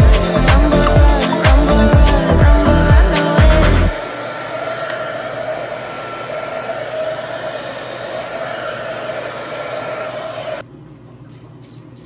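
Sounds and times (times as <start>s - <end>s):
hair dryer running: 0.0s - 10.6s.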